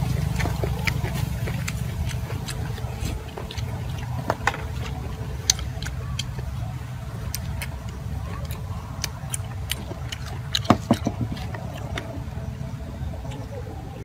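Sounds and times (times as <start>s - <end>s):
mouth clicks and smacks: 0.0s - 13.7s
low rumble: 0.0s - 14.0s.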